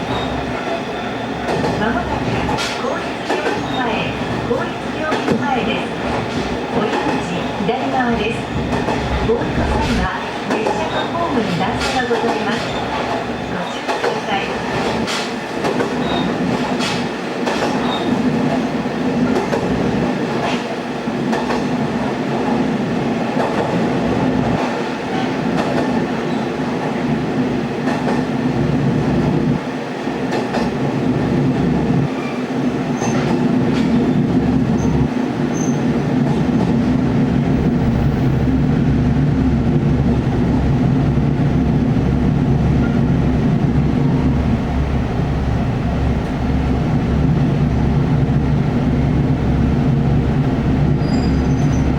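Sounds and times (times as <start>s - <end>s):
railcar engine humming: 0.0s - 51.9s.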